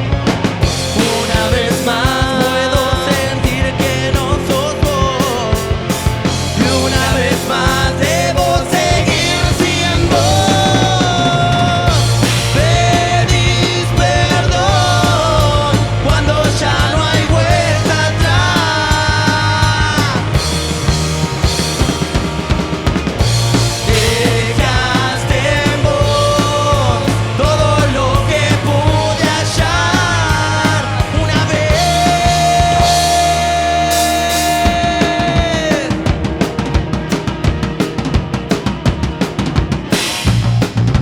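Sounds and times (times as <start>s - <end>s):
rock band playing live: 0.0s - 41.0s.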